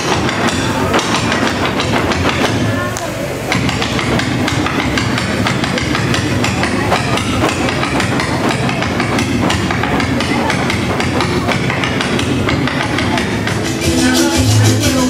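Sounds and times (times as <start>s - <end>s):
shoes stamping on wooden stage: 0.0s - 2.8s, 3.5s - 13.6s.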